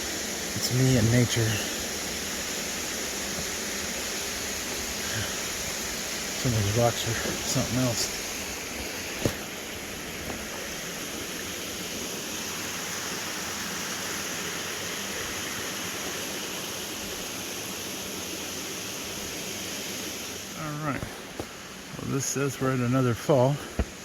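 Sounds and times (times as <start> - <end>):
waterfall and stream rushing: 0.0 - 24.0.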